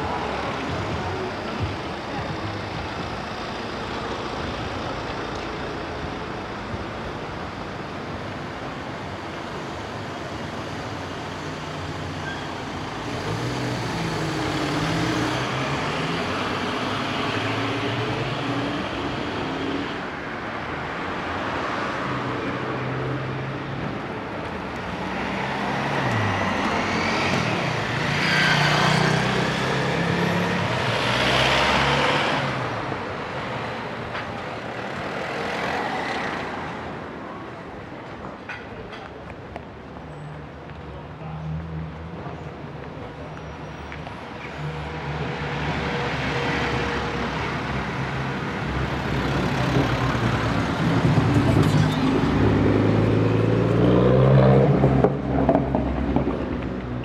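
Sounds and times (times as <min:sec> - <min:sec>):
cars passing: 0:00.0 - 0:57.0
traffic hum: 0:00.0 - 0:57.0.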